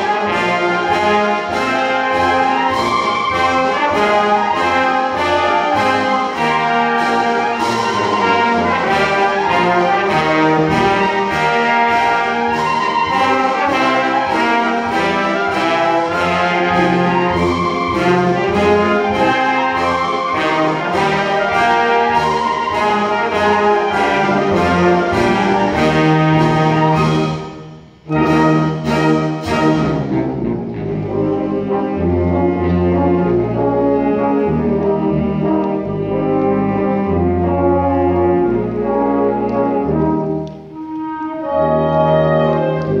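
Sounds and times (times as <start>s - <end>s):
wind band playing: 0.0s - 43.0s.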